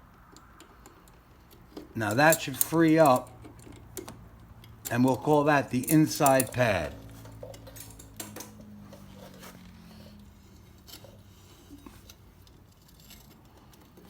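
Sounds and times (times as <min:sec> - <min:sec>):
metallic clicks of brake parts: 0:00.0 - 0:14.0.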